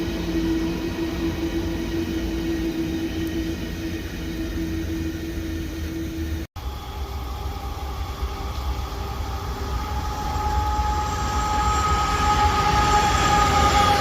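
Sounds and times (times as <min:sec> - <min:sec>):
freight train rumble: 0:00.0 - 0:14.0
high-pitched whine: 0:00.0 - 0:14.0.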